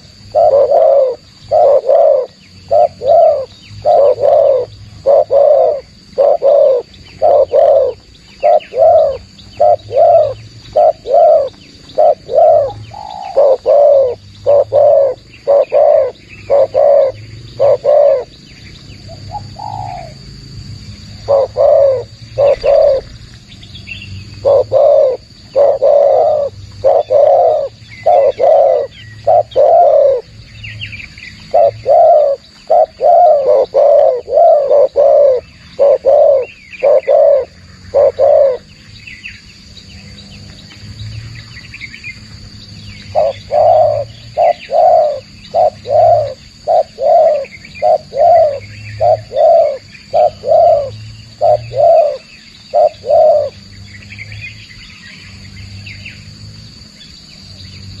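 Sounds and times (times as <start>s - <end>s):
doves cooing: 0.0s - 23.3s, 23.9s - 39.3s, 42.2s - 55.0s
small birds chirping: 0.0s - 58.0s.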